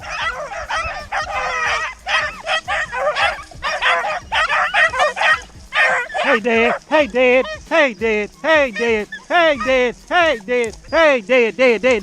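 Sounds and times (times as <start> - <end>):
pack of dogs baying and yipping: 0.0 - 12.0.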